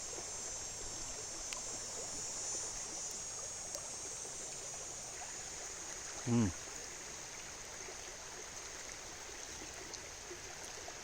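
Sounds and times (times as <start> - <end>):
insects buzzing: 0.0 - 11.0
river flowing: 0.0 - 11.0.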